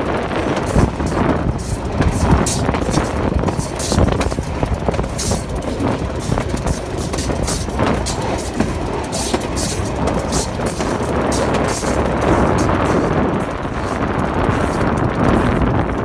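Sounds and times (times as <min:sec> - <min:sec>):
train rumble and rushing air: 0:00.0 - 0:16.0
wheels clicking over rails: 0:00.0 - 0:16.0.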